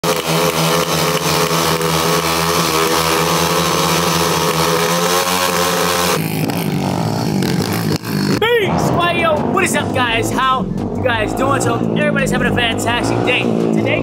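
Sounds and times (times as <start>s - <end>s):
motorbike engines at high revs: 0.0s - 14.0s.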